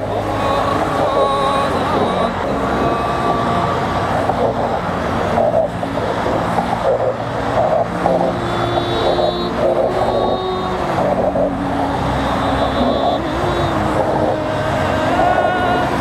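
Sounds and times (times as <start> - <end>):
loud traffic din: 0.0 - 16.0.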